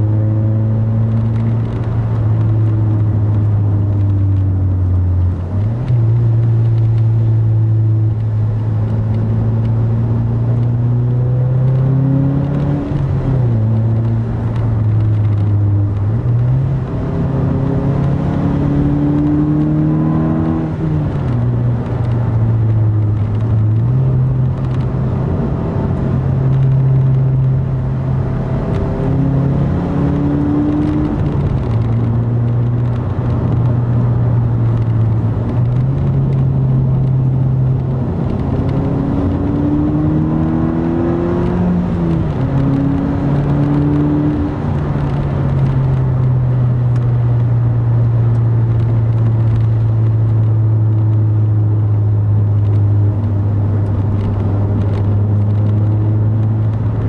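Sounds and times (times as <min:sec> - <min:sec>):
car engine while driving: 0:00.0 - 0:57.0.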